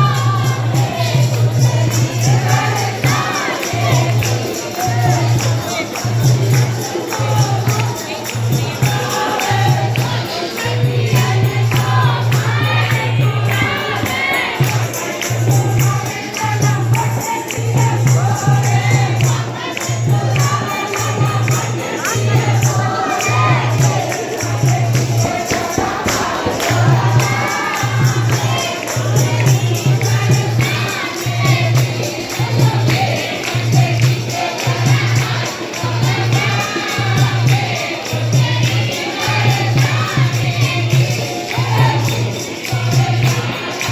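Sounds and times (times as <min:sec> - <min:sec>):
crowd singing a devotional chant: 0:00.0 - 0:43.9
jingling hand percussion: 0:00.0 - 0:43.9.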